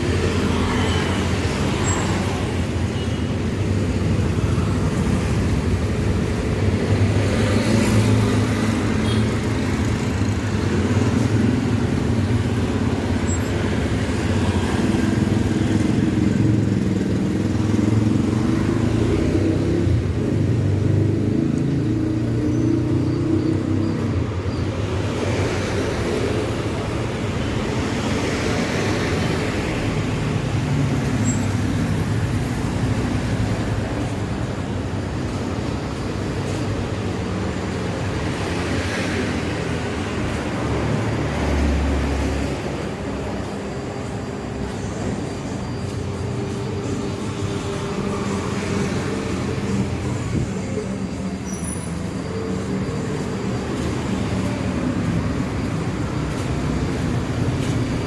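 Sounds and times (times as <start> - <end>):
rush of passing traffic: 0.0 - 58.0
vehicle engines humming: 0.0 - 58.0.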